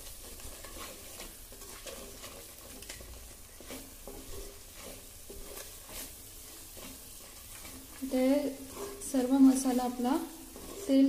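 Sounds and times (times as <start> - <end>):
paste sizzling in oil: 0.0 - 11.0
wooden spatula scraping pot: 0.0 - 11.0.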